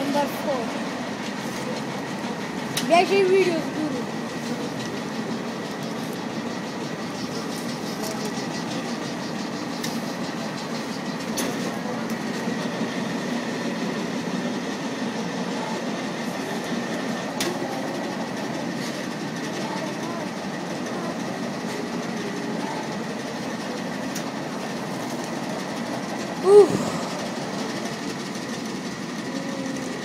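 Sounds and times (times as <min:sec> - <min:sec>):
machinery running: 0:00.0 - 0:30.0.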